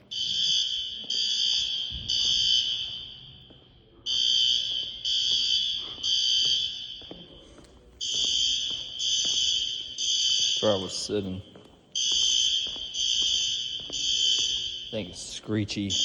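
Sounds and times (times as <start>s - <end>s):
fire alarm beeping: 0.0s - 16.0s.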